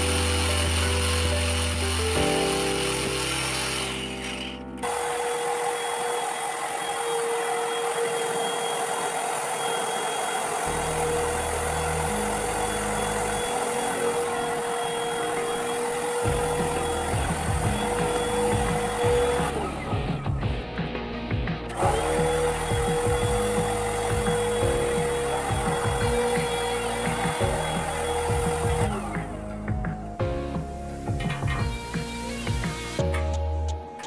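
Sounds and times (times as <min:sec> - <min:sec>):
paint spray gun hissing: 0:00.0 - 0:20.0, 0:21.7 - 0:29.3
angle grinder spinning: 0:00.0 - 0:20.4, 0:21.7 - 0:29.6.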